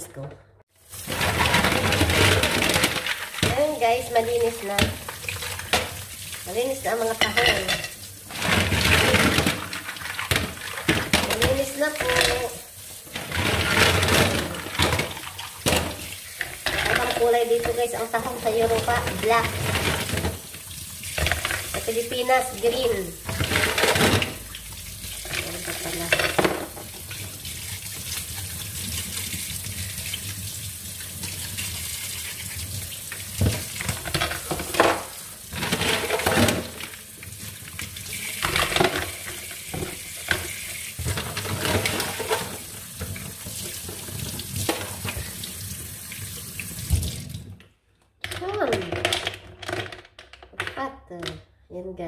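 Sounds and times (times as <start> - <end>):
tap water running into a sink: 0.8 - 47.7.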